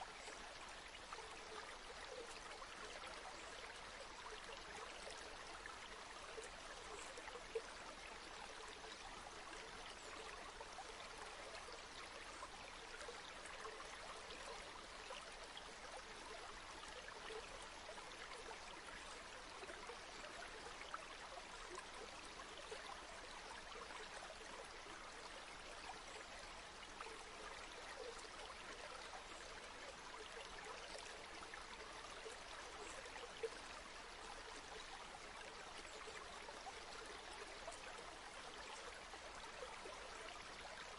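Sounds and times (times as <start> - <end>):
river water rushing and babbling: 0.0 - 40.9.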